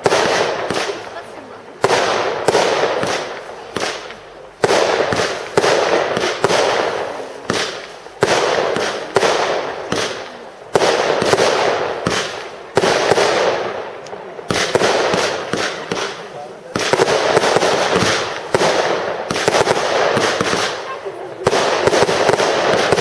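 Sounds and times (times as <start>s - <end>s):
fireworks cake bangs: 0.0s - 23.0s.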